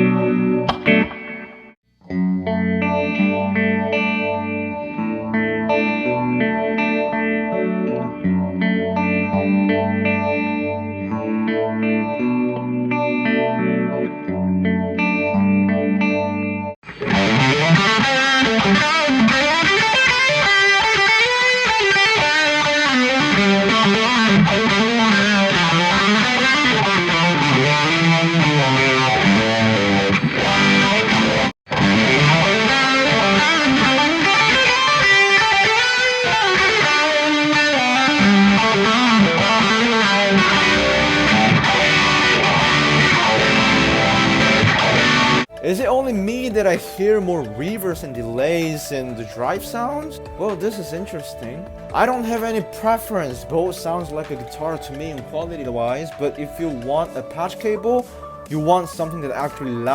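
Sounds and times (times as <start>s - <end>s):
distorted electric guitar lead: 0.0s - 59.9s.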